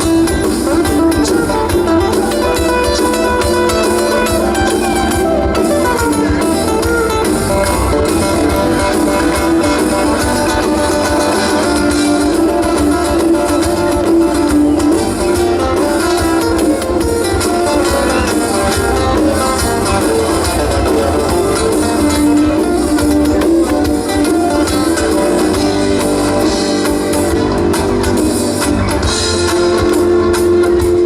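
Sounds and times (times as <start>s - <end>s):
lead guitar: 0.0s - 31.0s
live rock band playing: 0.0s - 31.0s.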